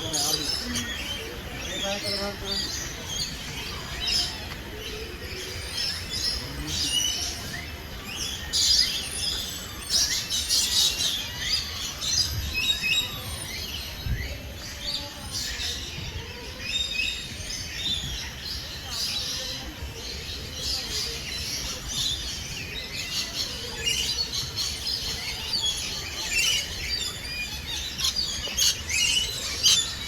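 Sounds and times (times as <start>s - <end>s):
birds chirping and whistling: 0.0s - 30.0s.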